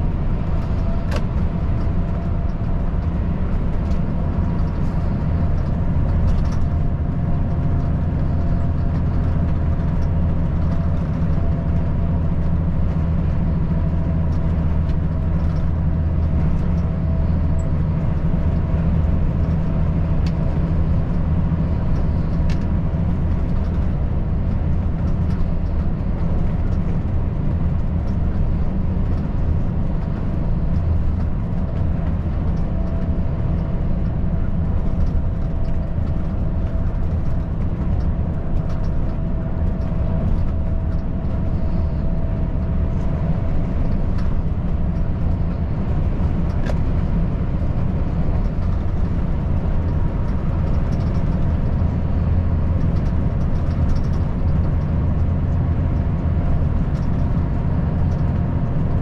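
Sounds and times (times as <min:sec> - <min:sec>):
truck diesel engine drone: 0:00.0 - 0:59.0
tyre and road noise: 0:00.0 - 0:59.0.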